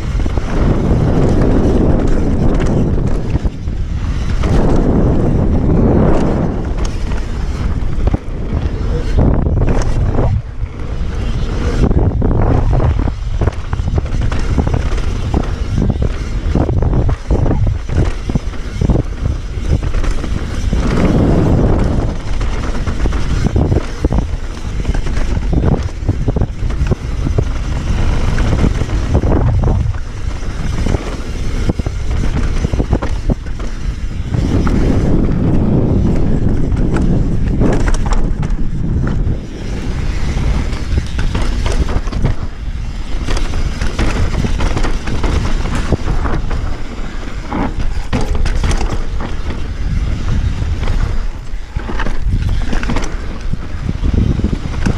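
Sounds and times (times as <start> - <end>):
bike rattling over bumps: 0.0 - 54.9
bike tyres crunching over dirt: 0.0 - 54.9
rushing rumble: 0.0 - 54.9.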